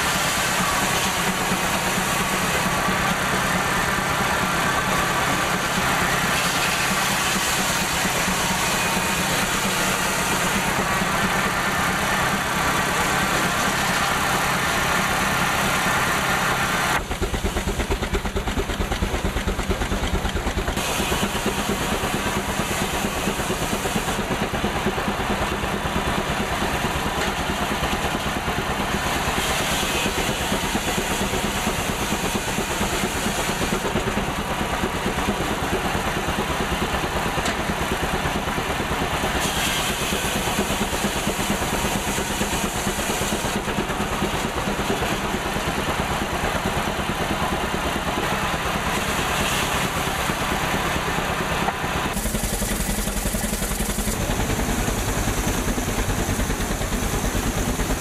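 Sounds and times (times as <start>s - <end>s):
saw blade cutting log: 0.0s - 25.0s, 26.9s - 36.2s, 39.0s - 46.6s, 48.2s - 50.9s, 51.7s - 58.0s
sawmill mechanical clatter: 0.0s - 58.0s.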